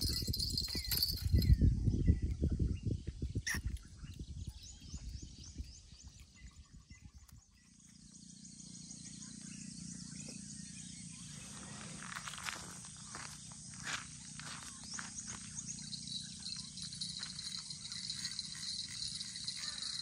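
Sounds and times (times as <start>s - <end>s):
high chirping calls: 0.0s - 12.3s, 13.1s - 20.0s
steady low hum: 0.0s - 20.0s.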